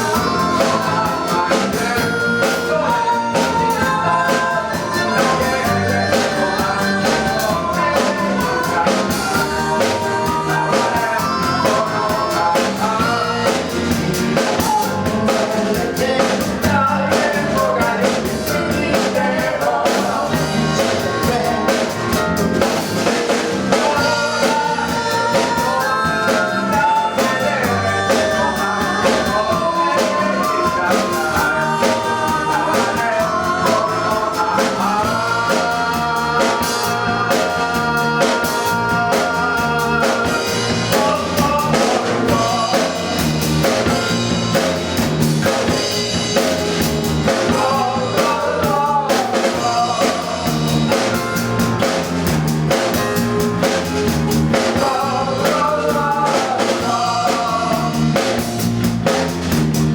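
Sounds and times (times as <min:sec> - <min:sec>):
person singing: 0:00.0 - 0:59.3
live band playing: 0:00.0 - 0:59.9.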